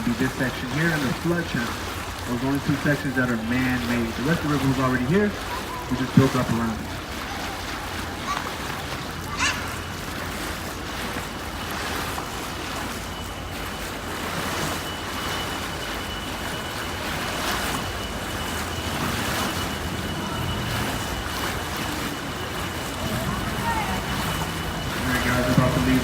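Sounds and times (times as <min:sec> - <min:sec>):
boat motor low hum: 0:00.0 - 0:26.0
water wash: 0:00.0 - 0:26.0.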